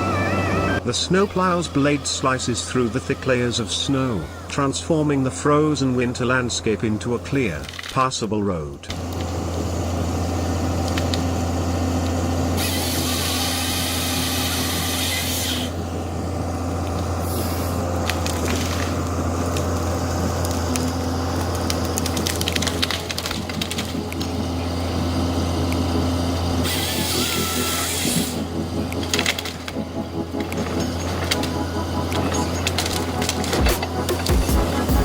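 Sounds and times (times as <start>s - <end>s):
truck engine humming: 0.0s - 35.0s.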